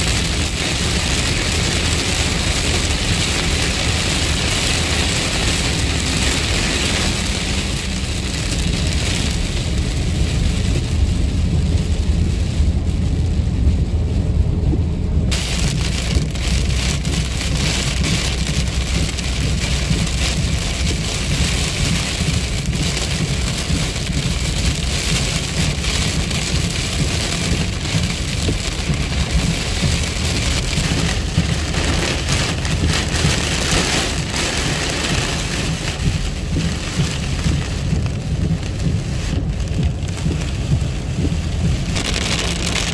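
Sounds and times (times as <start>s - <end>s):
heavy rain on car windshield: 0.0s - 42.9s
low road rumble: 0.0s - 42.9s.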